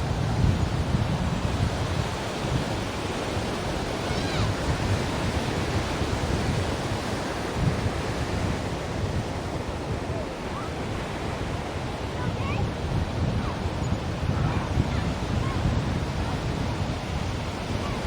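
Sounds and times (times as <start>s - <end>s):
ocean surf washing in: 0.0s - 18.0s.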